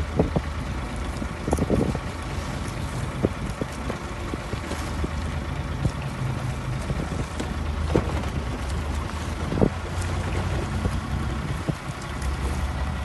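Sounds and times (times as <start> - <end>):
boat engine droning: 0.0 - 13.0
waves washing against hull: 0.0 - 13.0
wind buffeting microphone: 0.0 - 13.0.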